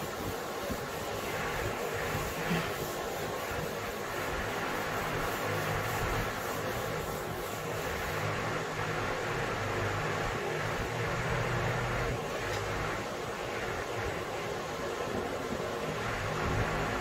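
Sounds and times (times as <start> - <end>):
duster rubbing on whiteboard: 0.0 - 14.3
background hiss: 0.0 - 17.0.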